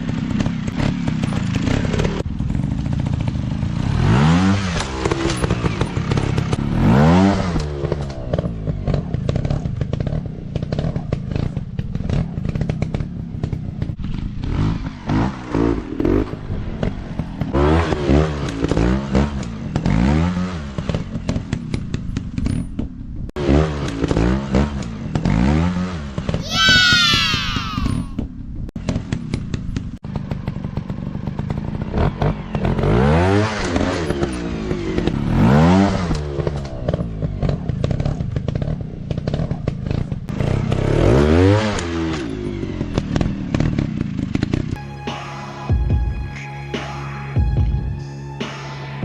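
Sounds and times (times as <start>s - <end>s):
dirt bike engine revving: 0.0s - 21.5s, 23.4s - 28.1s, 30.2s - 44.8s.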